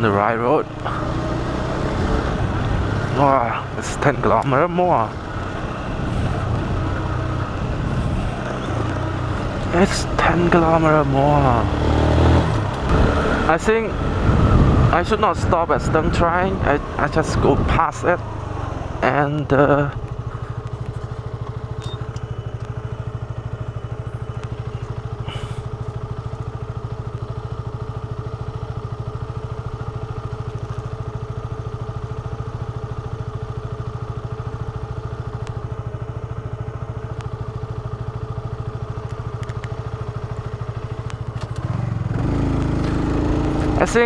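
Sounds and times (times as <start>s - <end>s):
motorcycle engine at steady revs: 0.0s - 44.0s.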